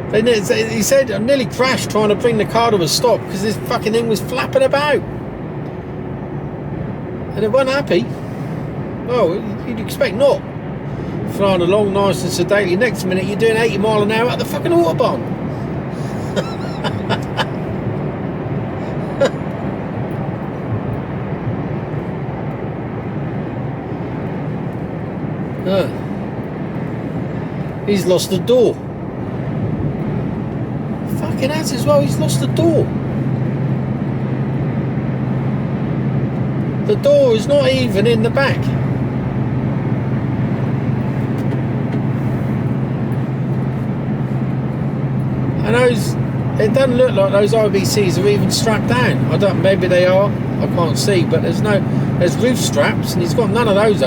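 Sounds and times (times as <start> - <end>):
truck road and engine noise: 0.0 - 54.0.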